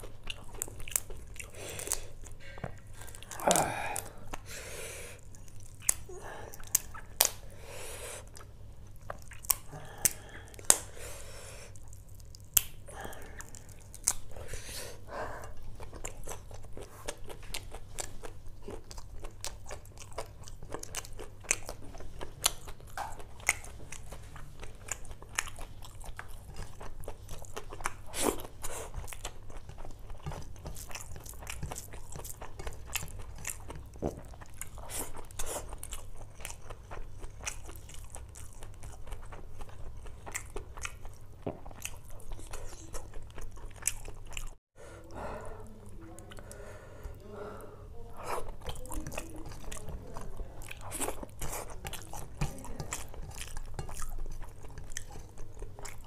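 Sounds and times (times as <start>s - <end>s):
person chewing: 0.0s - 56.0s.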